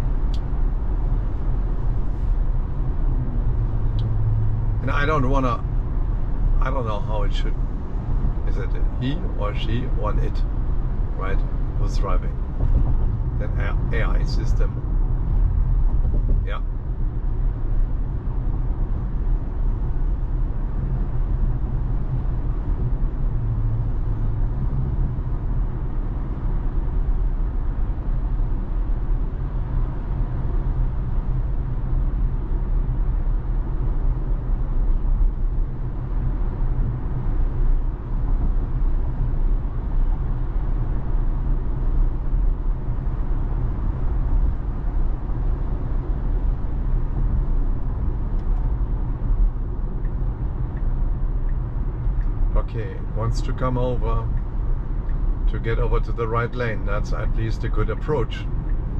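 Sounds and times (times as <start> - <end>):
road and tyre noise in car cabin: 0.0 - 58.9.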